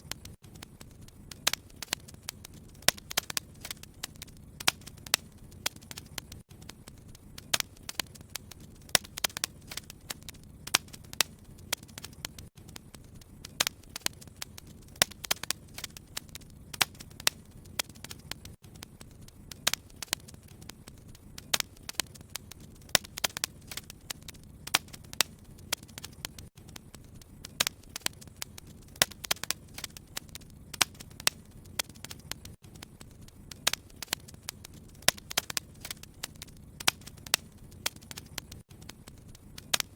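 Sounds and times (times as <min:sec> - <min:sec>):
low rumble of burning logs: 0:00.0 - 0:39.9
wood fire crackling: 0:00.0 - 0:39.9.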